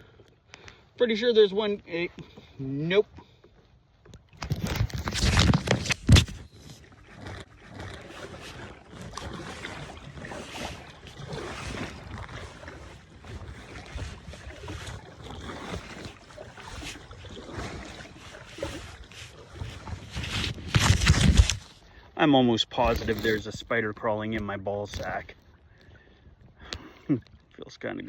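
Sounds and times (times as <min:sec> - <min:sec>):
paddle strokes in water: 0:00.0 - 0:27.6.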